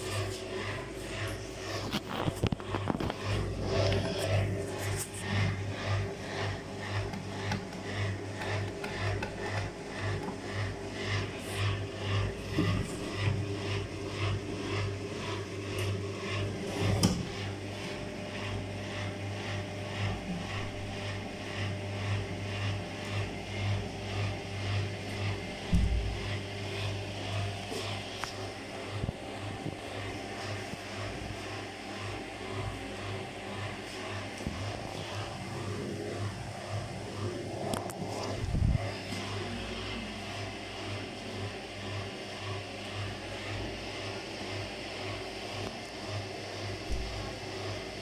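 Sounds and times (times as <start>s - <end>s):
washing machine spinning: 0.0s - 48.0s.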